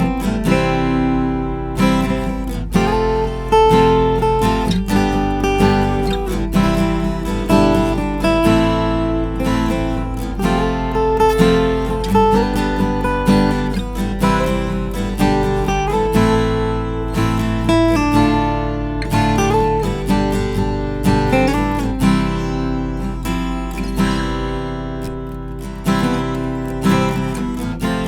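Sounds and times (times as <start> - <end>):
acoustic guitar strummed and picked: 0.0 - 28.0.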